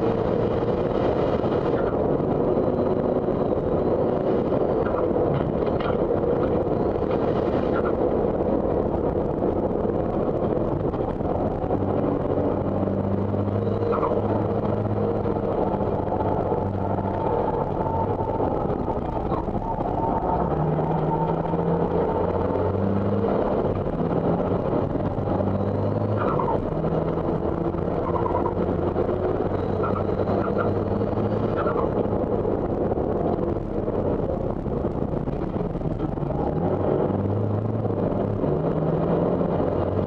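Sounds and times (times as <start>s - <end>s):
diesel engine pulling through gears: 0.0s - 40.0s.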